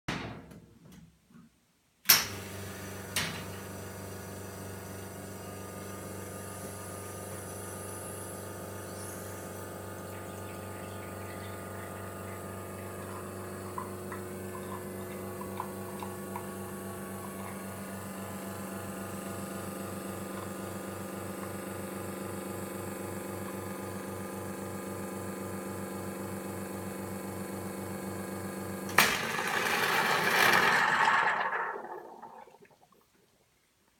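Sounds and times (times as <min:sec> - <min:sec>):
espresso machine pump hum: 0:02.4 - 0:32.5
espresso machine hiss: 0:02.6 - 0:30.5.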